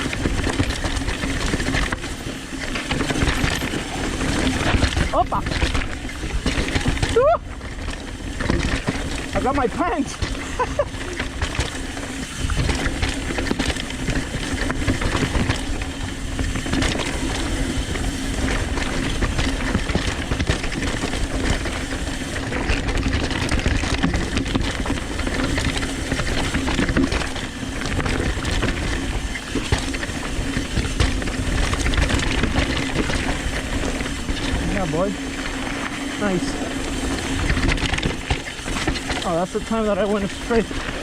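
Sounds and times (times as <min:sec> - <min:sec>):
bike rattling over bumps: 0:00.0 - 0:41.0
bike tyres on dirt and rock: 0:00.0 - 0:41.0.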